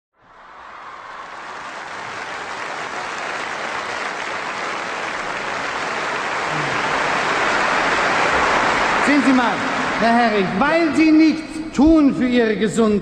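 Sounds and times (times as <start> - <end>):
audience applause: 0.2 - 11.3.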